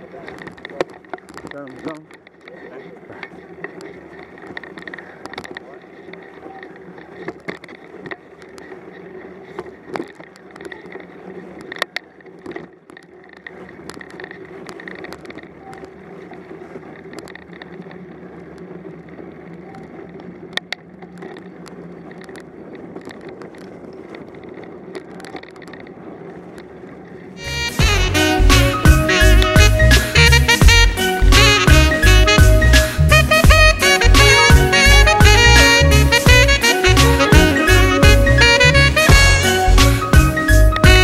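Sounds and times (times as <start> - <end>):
bike tyre and drivetrain noise: 0.0 - 41.0.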